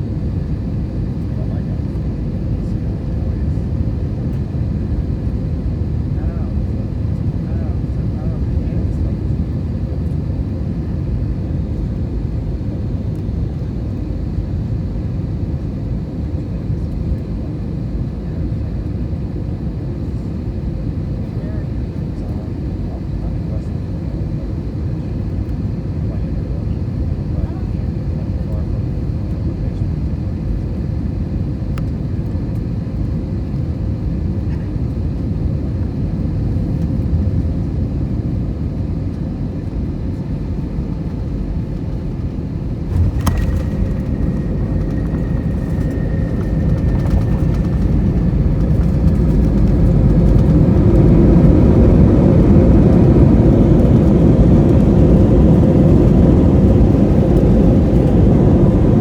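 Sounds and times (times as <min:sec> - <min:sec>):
airplane cabin rumble: 0:00.0 - 0:59.0
jet engine noise: 0:00.0 - 0:59.0.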